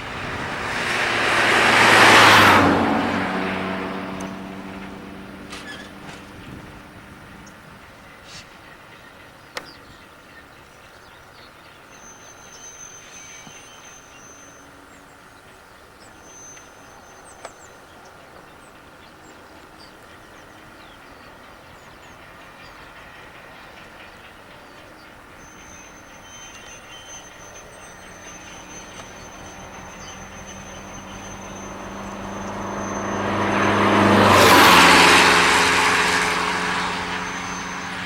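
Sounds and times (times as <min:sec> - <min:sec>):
birds chirping: 0:00.0 - 0:38.0
distant diesel locomotive running: 0:00.0 - 0:38.0.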